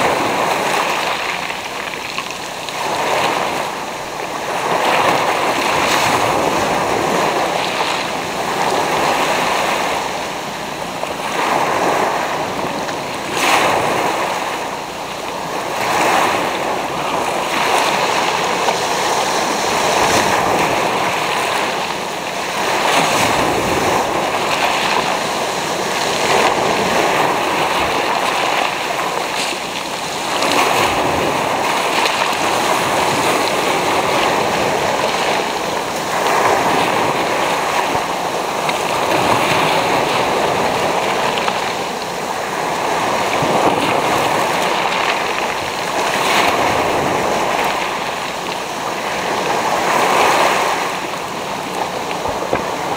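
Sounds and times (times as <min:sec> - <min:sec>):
waves breaking on pebble beach: 0:00.0 - 0:52.9.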